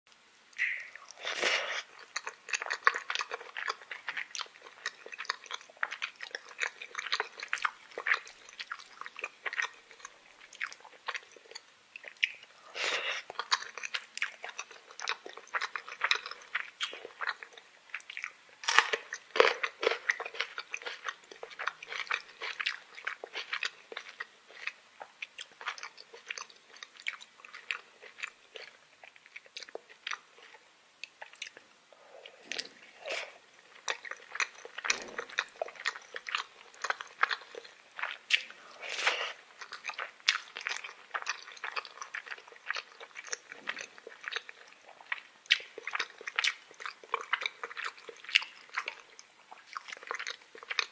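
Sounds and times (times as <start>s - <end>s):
chewing: 0.6s - 50.9s.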